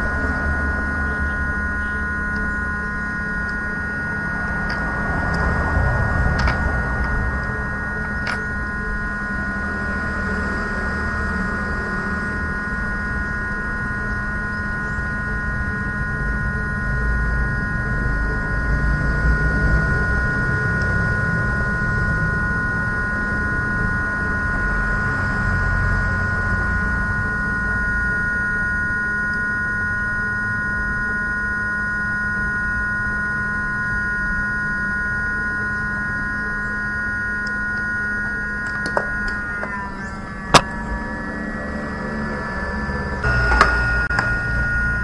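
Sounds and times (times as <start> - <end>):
electrical hum with high whine: 0.0 - 45.0.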